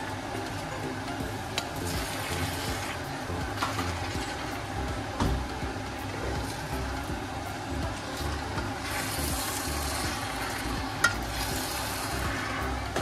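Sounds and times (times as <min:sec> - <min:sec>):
noodles sizzling in a frying pan: 0:00.0 - 0:13.0.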